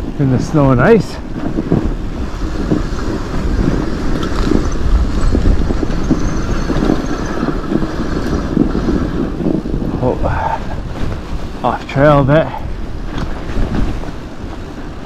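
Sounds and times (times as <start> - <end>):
bike crunching over snow and ice: 0.0 - 15.0.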